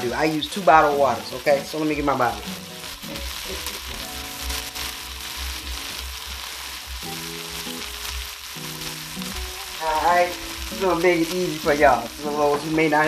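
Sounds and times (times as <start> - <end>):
background music: 0.0 - 13.0
food sizzling in skillet: 0.0 - 13.0.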